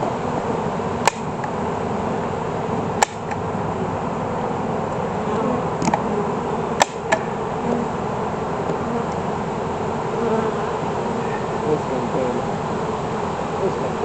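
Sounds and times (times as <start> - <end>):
honeybees humming: 0.0 - 14.0.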